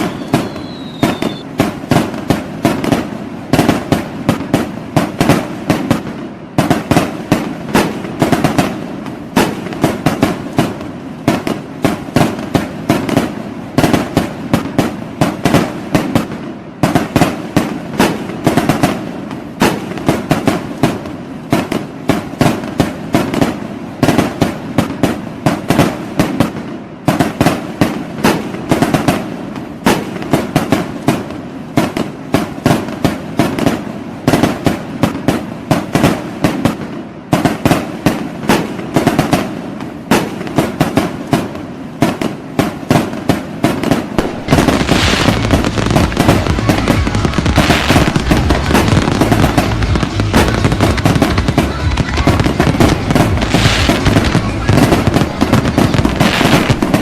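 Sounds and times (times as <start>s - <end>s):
fireworks and firecrackers banging: 0.0s - 57.0s.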